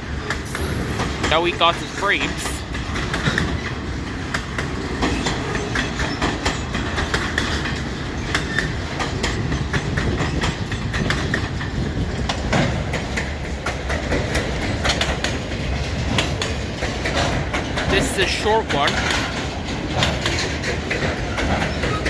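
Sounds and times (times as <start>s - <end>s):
freight train rumbling past: 0.0s - 22.0s
wheels clicking over rail joints: 0.0s - 22.0s.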